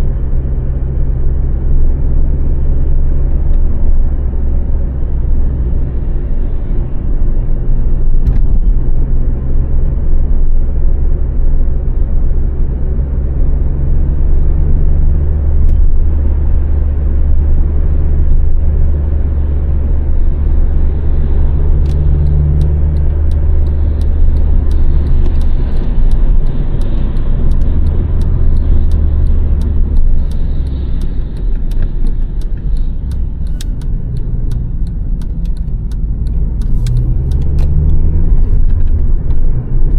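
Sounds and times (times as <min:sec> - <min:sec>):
car engine droning: 0:00.0 - 0:39.9
road noise: 0:00.0 - 0:39.9.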